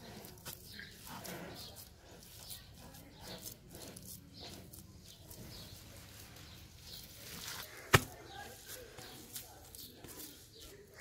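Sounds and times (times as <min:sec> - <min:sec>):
wet mud squelching and patting: 0:00.0 - 0:11.0.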